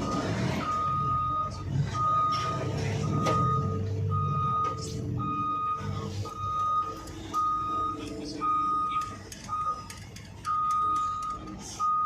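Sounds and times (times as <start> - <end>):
low engine rumble: 0.0 - 12.0
reversing alarm beeping: 0.0 - 12.0.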